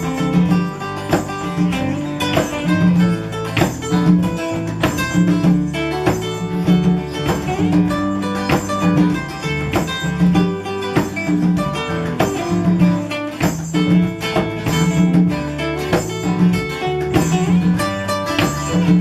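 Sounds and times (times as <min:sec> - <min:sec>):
strummed acoustic guitar: 0:00.0 - 0:19.0.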